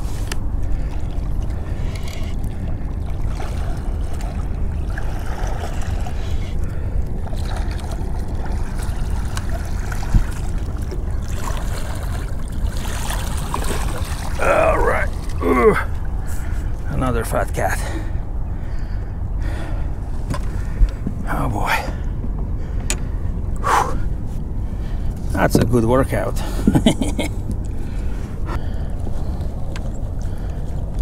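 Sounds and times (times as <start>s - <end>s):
water around a boat: 0.0s - 31.0s
wind: 0.0s - 31.0s.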